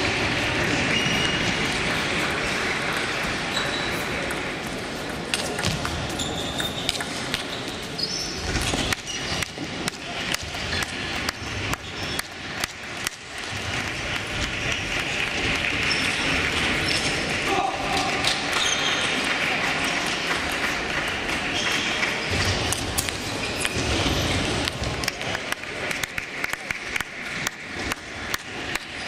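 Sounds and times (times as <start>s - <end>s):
murmur of voices in a hall: 0.0s - 29.0s.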